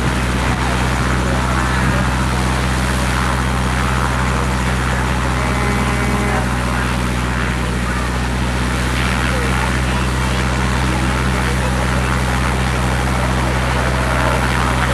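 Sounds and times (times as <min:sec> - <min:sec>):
helicopter rotor and engine: 0:00.0 - 0:14.9.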